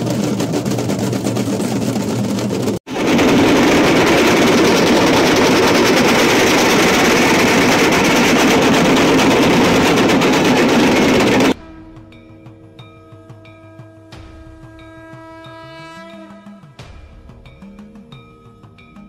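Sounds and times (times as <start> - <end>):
hand drums rolling: 0.0 - 15.6.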